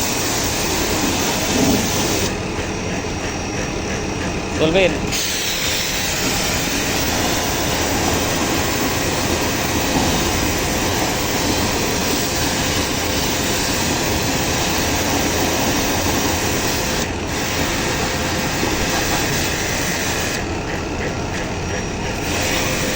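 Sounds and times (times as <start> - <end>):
motor running with hiss: 0.0 - 22.9.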